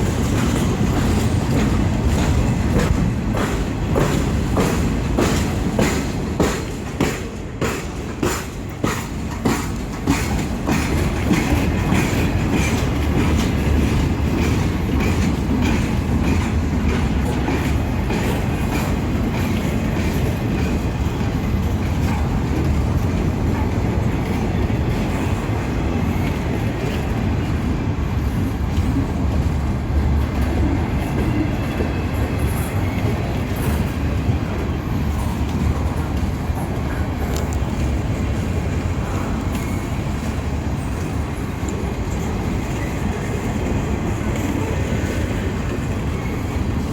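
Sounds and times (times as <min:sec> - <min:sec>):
steel wheels ringing on rail: 0:00.0 - 0:46.9
train rumble: 0:00.0 - 0:46.9
wheels clicking over rail joints: 0:00.0 - 0:46.9.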